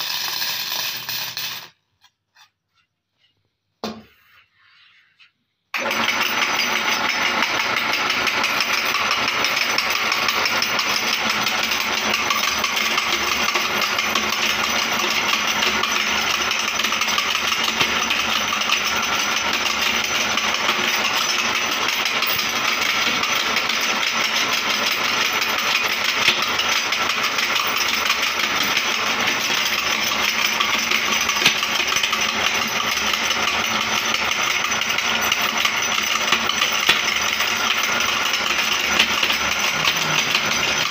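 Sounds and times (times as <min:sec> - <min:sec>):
glass crunching in metal grinder: 0:00.0 - 0:02.5, 0:08.7 - 0:40.9.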